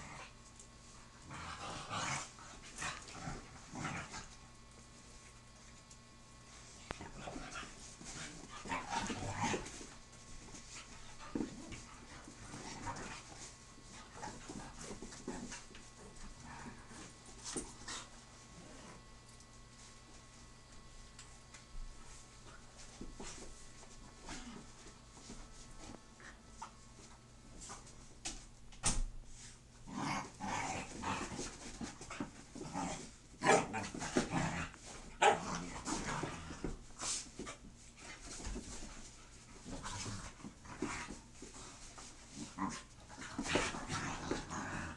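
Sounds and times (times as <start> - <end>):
dogs scuffling on carpet: 0.0 - 44.9.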